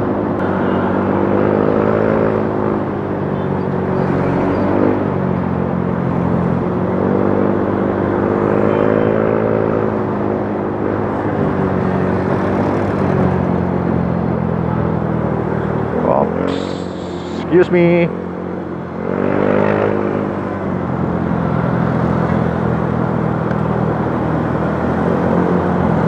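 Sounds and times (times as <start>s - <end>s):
road noise rushing: 0.0s - 26.0s.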